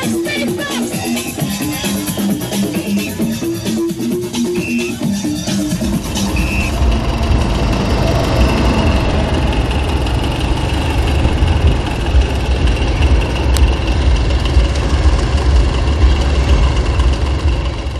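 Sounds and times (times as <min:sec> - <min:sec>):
vehicle rumble from on board: 0:00.0 - 0:17.9.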